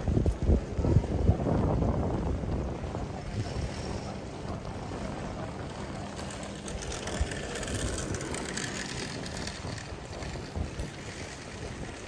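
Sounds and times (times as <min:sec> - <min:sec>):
bicycle tyres on paving stones: 0:00.0 - 0:12.0
wind buffeting microphone: 0:00.0 - 0:12.0.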